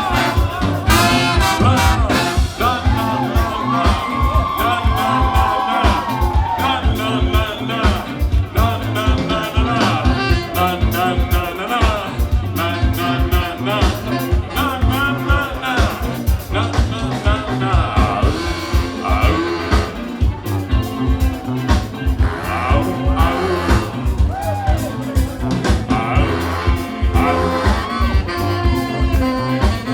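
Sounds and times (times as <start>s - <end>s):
drum beat: 0.0s - 29.9s
horn lines: 0.0s - 29.9s
upbeat live band music: 0.0s - 29.9s.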